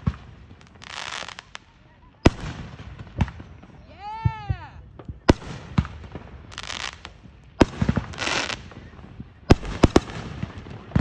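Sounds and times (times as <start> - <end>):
fireworks banging: 0.0 - 11.0
fireworks crackling hiss: 0.0 - 11.0.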